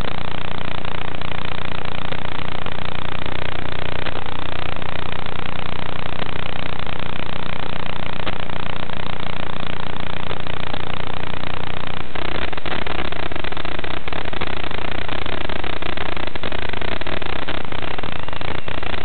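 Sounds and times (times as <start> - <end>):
electronic hiss and buzz: 0.0 - 19.0.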